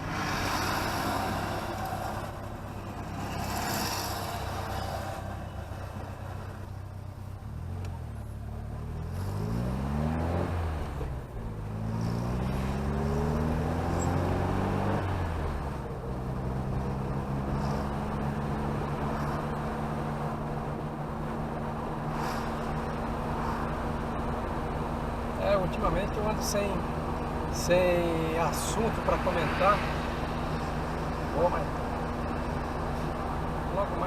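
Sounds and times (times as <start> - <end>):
car engine accelerating: 0.0 - 34.0
road noise: 0.0 - 34.0.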